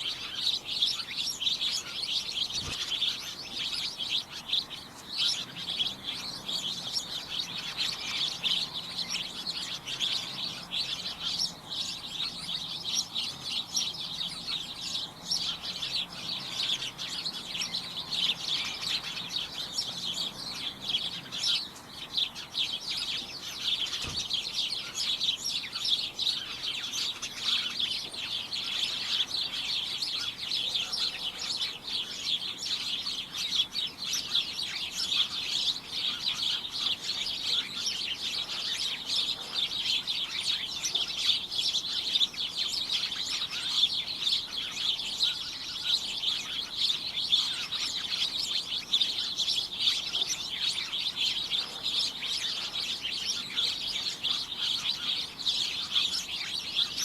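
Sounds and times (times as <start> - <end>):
flock of small birds chirping: 0.0 - 57.0.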